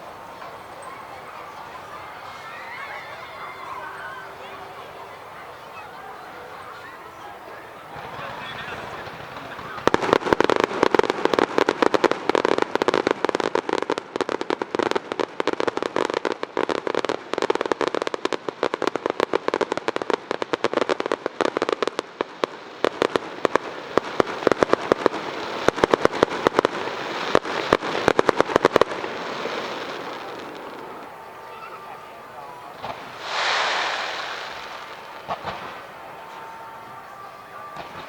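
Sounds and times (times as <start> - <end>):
fireworks crackling pops: 0.0 - 38.0.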